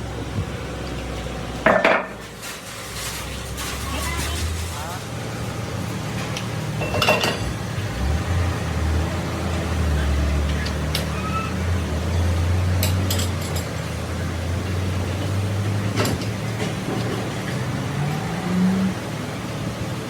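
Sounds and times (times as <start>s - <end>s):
low mechanical drone: 3.6s - 20.0s.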